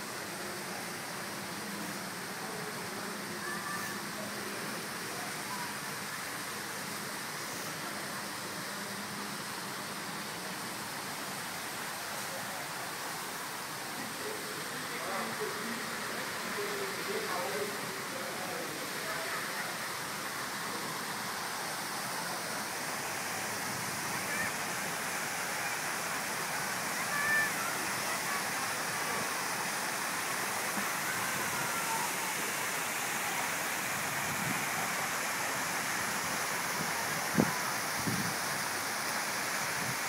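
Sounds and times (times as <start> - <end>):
fountain water splashing: 0.0 - 40.0.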